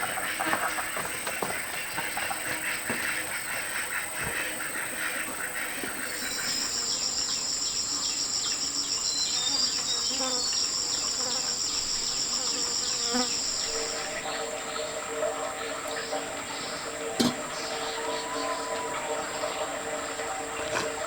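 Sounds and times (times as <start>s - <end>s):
insect high-pitched drone: 0.0s - 21.0s.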